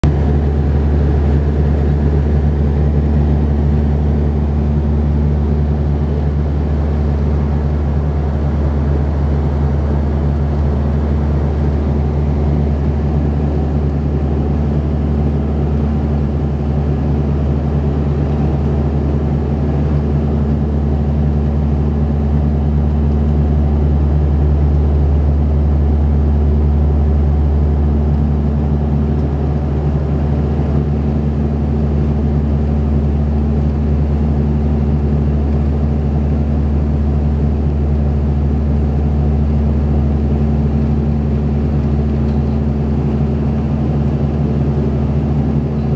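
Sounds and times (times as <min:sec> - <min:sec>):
turboprop engines droning in cabin: 0:00.0 - 0:45.9.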